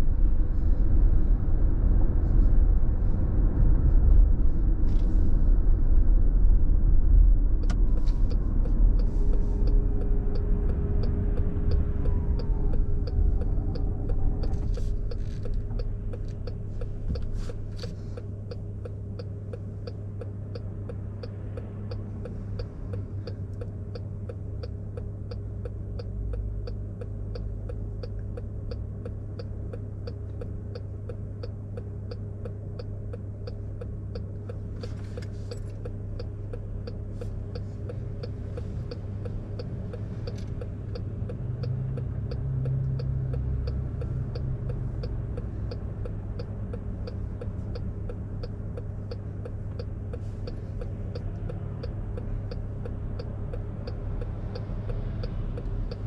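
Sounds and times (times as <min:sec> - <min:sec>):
low car drivetrain hum: 0:00.0 - 0:56.0
turn signal ticking: 0:07.4 - 0:56.0.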